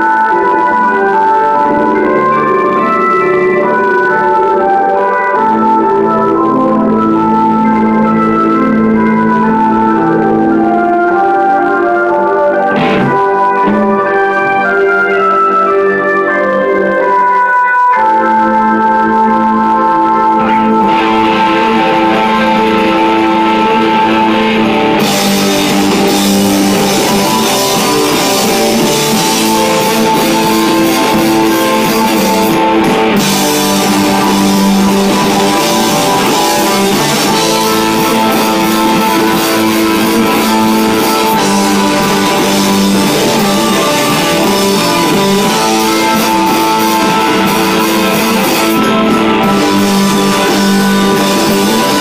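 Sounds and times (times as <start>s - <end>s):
drums: 0.0s - 52.0s
electric guitar chords: 0.0s - 52.0s
live rock band: 0.0s - 52.0s.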